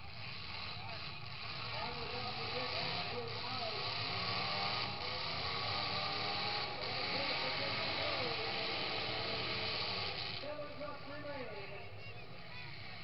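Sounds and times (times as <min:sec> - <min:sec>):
faint crowd voices: 0:00.0 - 0:13.0
truck engines running: 0:00.0 - 0:13.0.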